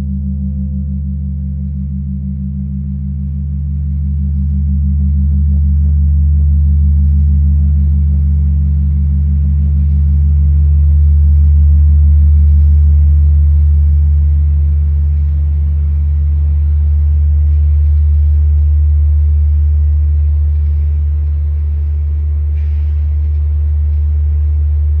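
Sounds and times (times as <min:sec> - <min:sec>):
deep bell hum: 0:00.0 - 0:25.0.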